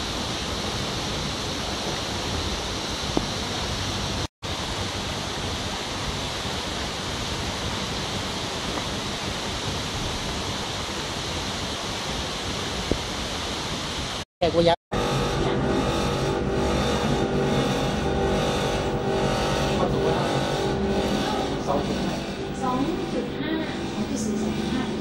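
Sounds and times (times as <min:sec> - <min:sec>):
steady hissing rushing noise: 0:00.0 - 0:14.7, 0:16.7 - 0:25.0.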